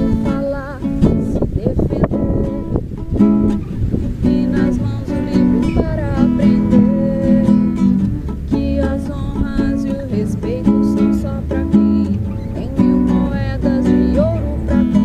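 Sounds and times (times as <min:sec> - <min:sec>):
person singing: 0:00.0 - 0:03.0, 0:04.1 - 0:15.0
acoustic guitar strumming: 0:00.0 - 0:15.0.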